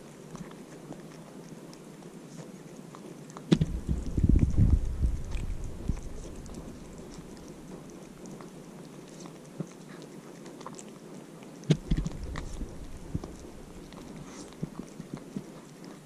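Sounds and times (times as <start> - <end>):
cat chewing food: 0.0 - 16.0.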